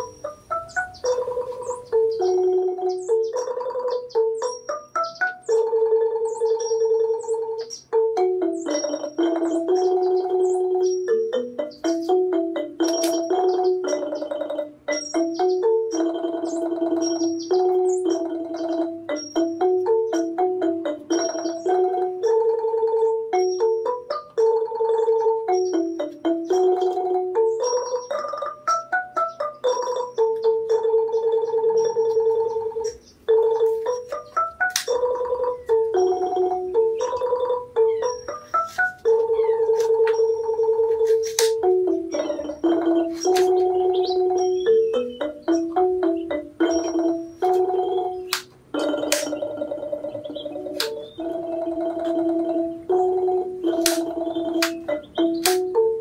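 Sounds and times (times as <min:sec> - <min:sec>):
gentle background music: 0:00.0 - 0:56.0
keyboard melody: 0:00.0 - 0:56.0.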